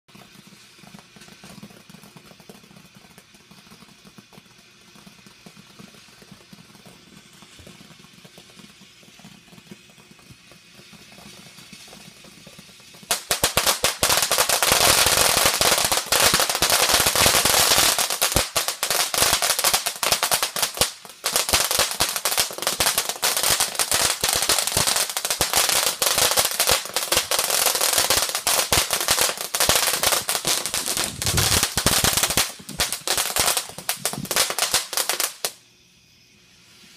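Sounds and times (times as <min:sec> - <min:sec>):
firework fountain crackling: 0:00.0 - 0:36.9.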